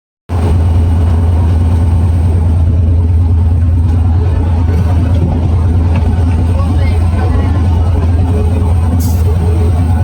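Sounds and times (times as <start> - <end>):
train rumbling: 0.3 - 10.0.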